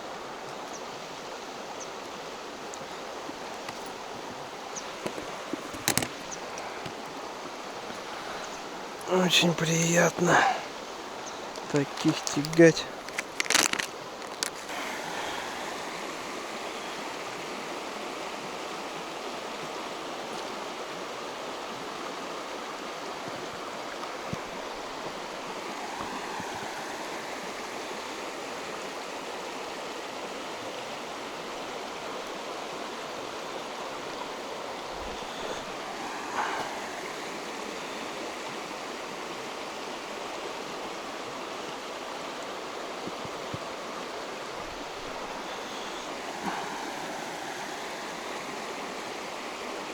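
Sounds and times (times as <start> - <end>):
river rushing over stones: 0.0 - 49.9.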